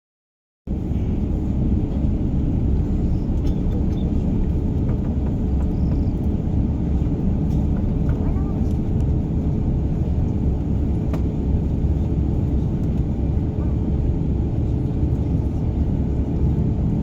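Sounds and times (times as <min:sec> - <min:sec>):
aircraft cabin engine rumble: 0:00.7 - 0:17.0
constant hum: 0:00.7 - 0:17.0.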